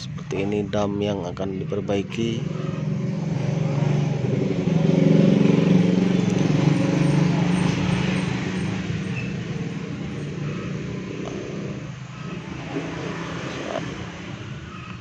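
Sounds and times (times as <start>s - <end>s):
vehicle engine passing by: 2.2s - 15.0s.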